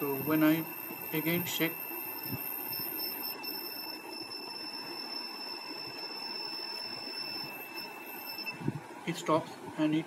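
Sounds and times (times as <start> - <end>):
high-pitched buzzer alarm: 0.0 - 8.7.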